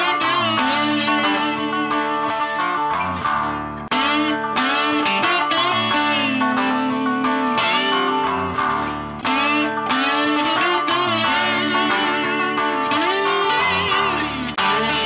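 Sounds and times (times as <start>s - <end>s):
electric guitar music: 0.0s - 15.0s.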